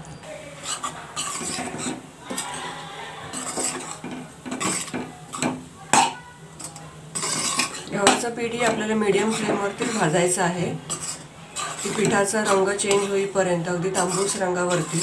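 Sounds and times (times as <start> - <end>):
metal spatula scraping a pan: 0.4 - 15.0.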